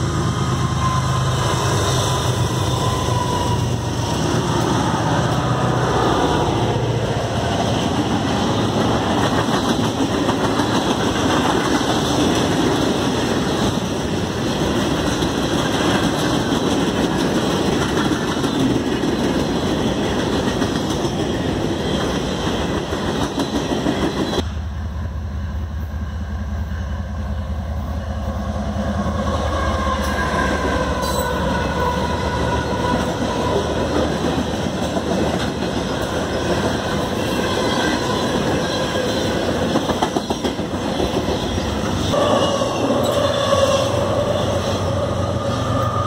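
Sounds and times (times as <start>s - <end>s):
diesel locomotive engine drone: 0.0s - 46.0s.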